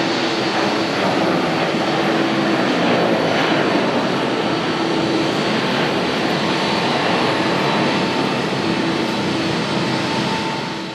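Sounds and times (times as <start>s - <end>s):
jet engine roar: 0.0s - 10.9s.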